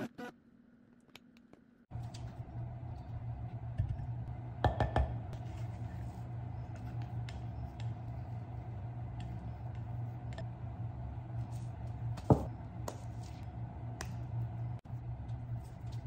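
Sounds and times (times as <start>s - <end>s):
steady low hum: 1.9s - 16.0s.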